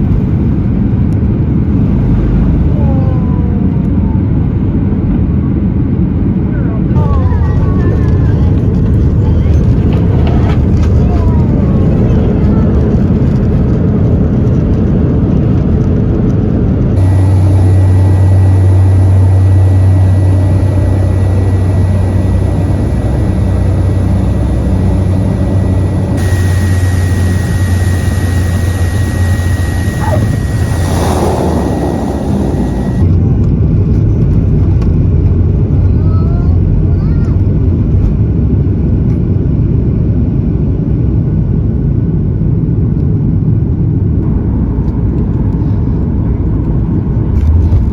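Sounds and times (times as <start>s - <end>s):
jet engines: 0.0s - 47.9s
turboprop engine drone: 0.0s - 47.9s.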